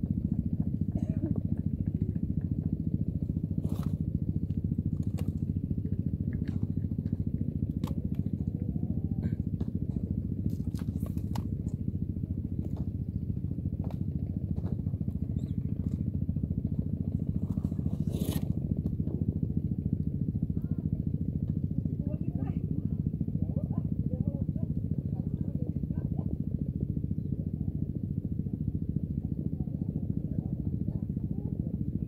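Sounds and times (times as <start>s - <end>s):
engine drone: 0.0s - 32.0s.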